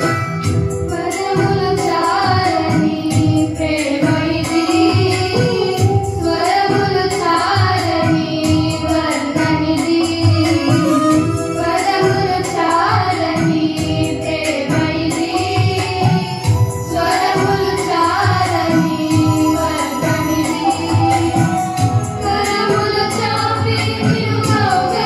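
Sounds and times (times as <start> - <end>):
instrumental accompaniment: 0.0 - 25.0
girls singing together: 0.9 - 25.0.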